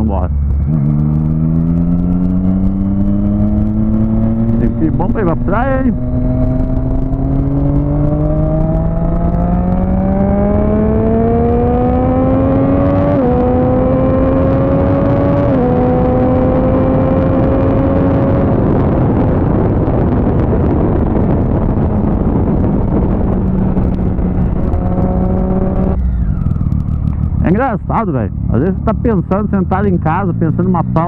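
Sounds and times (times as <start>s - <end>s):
motorcycle engine accelerating: 0.0s - 31.0s
wind rush on helmet: 0.0s - 31.0s.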